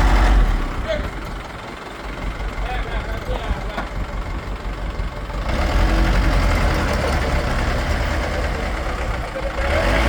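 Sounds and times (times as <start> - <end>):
heavy engine rumbling: 0.0 - 10.0.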